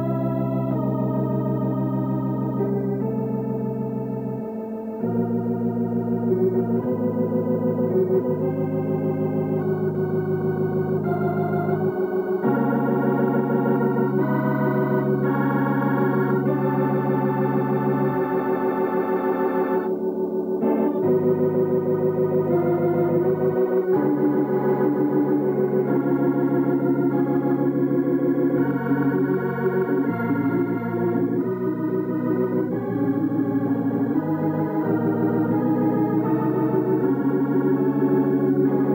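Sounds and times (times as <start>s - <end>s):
organ music: 0.0s - 38.9s.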